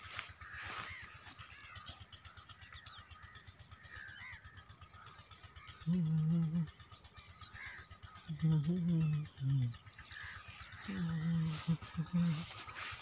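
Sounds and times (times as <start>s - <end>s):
birds chirping: 0.0s - 13.0s
low fast-pulsing rumble: 0.3s - 13.0s.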